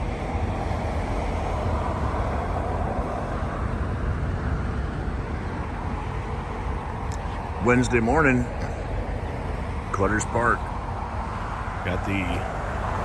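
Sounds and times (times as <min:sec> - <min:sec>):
distant jet noise: 0:00.0 - 0:13.0
distant vehicle noise: 0:00.0 - 0:13.0
steady outdoor rumble and hiss: 0:00.0 - 0:13.0.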